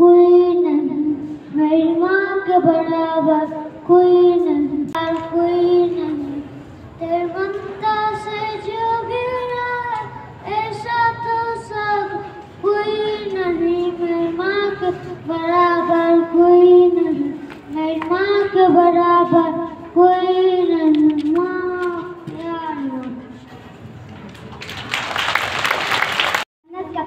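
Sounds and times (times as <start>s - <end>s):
boy singing into microphone: 0.0s - 23.2s.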